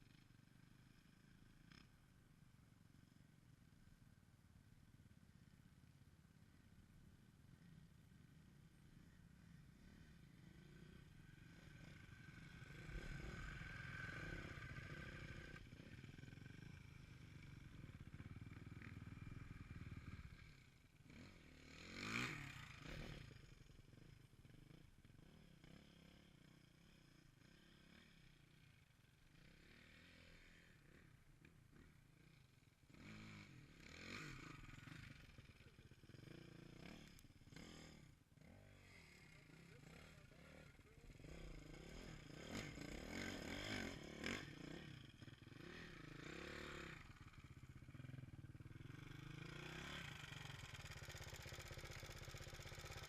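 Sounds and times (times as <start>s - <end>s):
dirt bike passing by: 0.0s - 2.3s, 5.4s - 53.0s
faint dirt bike engines: 0.0s - 53.0s.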